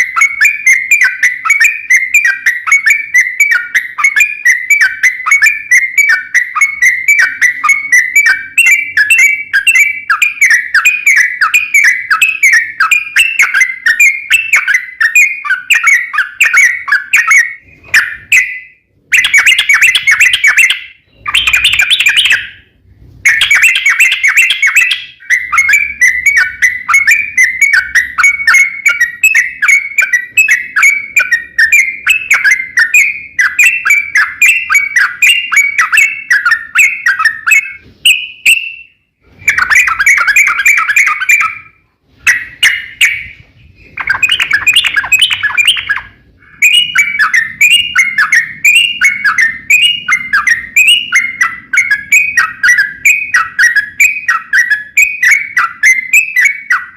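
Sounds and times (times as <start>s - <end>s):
bird singing chattering notes: 0.0s - 22.7s, 23.3s - 56.9s.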